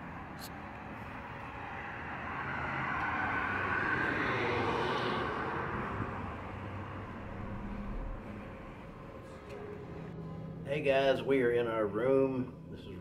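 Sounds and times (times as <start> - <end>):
vehicle passing by: 0.1 - 11.3.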